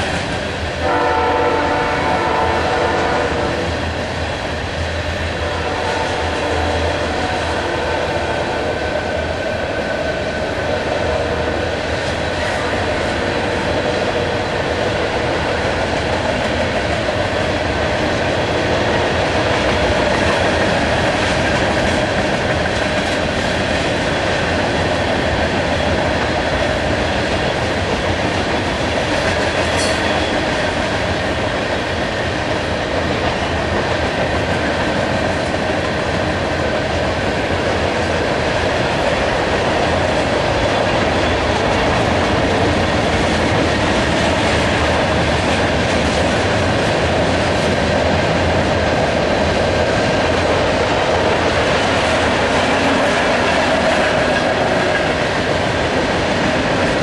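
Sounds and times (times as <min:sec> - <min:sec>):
train wheels rolling on rail: 0:00.0 - 0:57.0.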